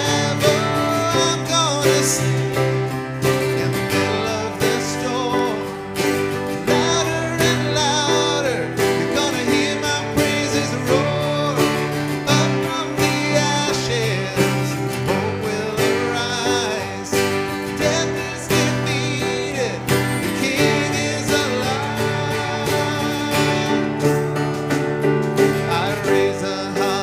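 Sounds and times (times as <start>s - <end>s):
sung vocals: 0.0s - 24.7s, 25.5s - 27.0s
keyboard: 0.0s - 27.0s
strummed acoustic guitar: 0.0s - 27.0s.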